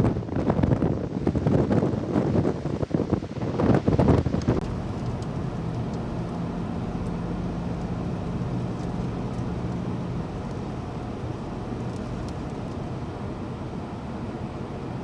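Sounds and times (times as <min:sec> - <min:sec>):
wind buffeting microphone: 0:00.0 - 0:13.5
vehicle running noise: 0:00.0 - 0:15.0
faint engine hum: 0:02.4 - 0:15.0.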